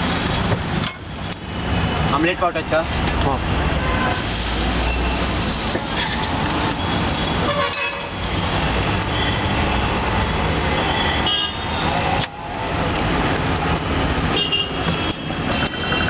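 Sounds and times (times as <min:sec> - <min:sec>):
rumble of vehicle engines: 0:00.0 - 0:16.0.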